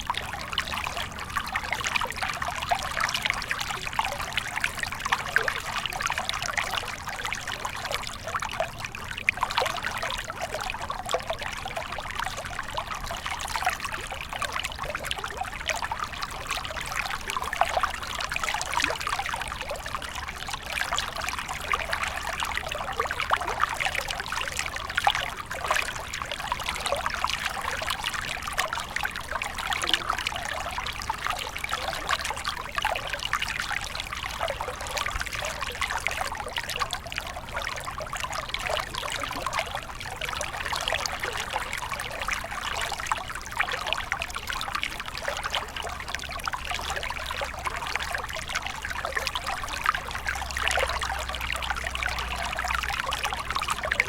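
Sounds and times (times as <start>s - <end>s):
stream splashing over stones: 0.0s - 54.0s.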